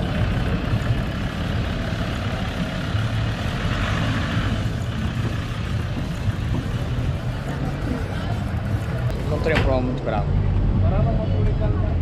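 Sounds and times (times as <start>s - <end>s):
engine droning: 0.0s - 12.0s
road noise: 0.0s - 12.0s.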